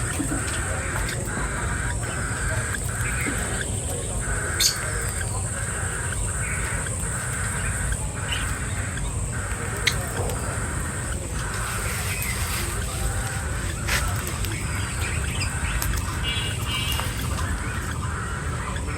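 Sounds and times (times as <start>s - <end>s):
birds calling: 0.0s - 18.9s
constant high hiss: 0.0s - 18.9s.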